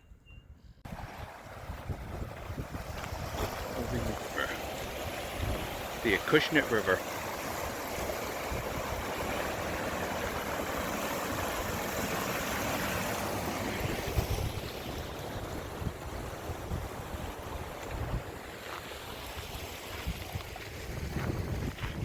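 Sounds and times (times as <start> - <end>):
wind buffeting microphone: 0.0 - 6.1, 7.6 - 11.8, 13.2 - 18.4, 19.1 - 22.0
river water rushing: 0.9 - 20.8.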